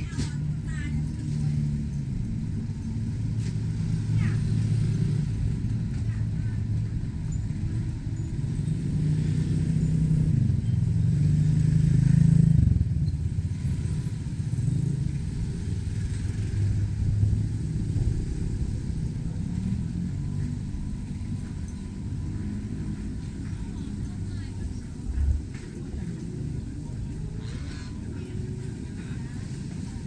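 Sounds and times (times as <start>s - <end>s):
motor vehicle engine running: 0.0s - 30.0s
passing traffic: 0.0s - 30.0s.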